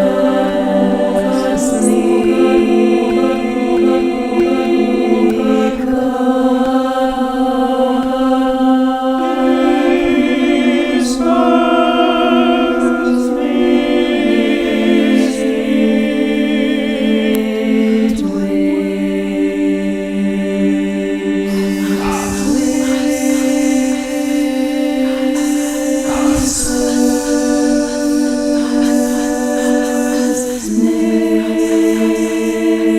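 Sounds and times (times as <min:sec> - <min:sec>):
a cappella choir singing: 0:00.0 - 0:32.9.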